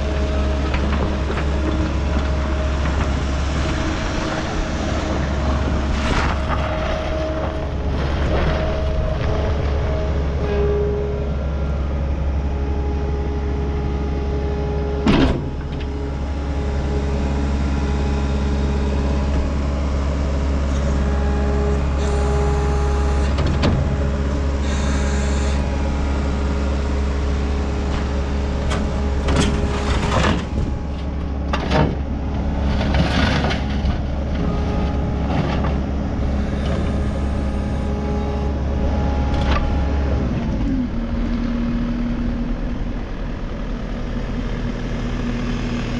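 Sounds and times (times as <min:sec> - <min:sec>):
steady whine: 0:00.0 - 0:41.2
diesel engine running: 0:00.0 - 0:45.9.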